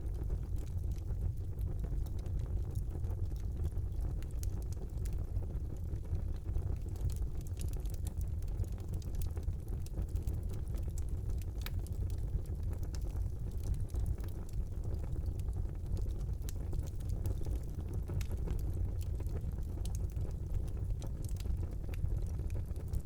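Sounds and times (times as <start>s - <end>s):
burning logs crackling and popping: 0.0s - 23.0s
roar of flames: 0.6s - 23.0s.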